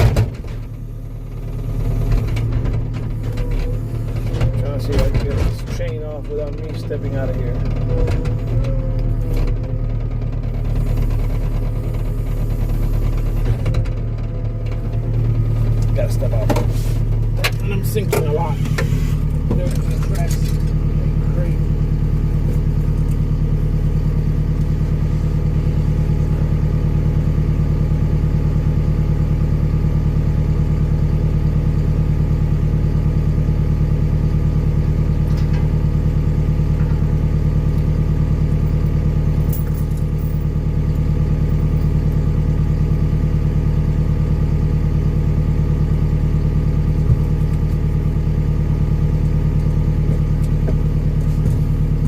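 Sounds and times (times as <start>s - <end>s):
skid steer engine running: 0.0s - 52.0s.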